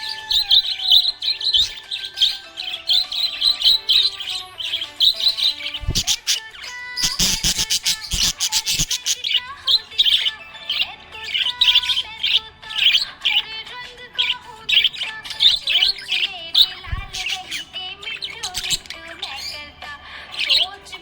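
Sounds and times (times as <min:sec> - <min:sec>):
parrots chirping: 0:00.0 - 0:19.7, 0:20.3 - 0:21.0.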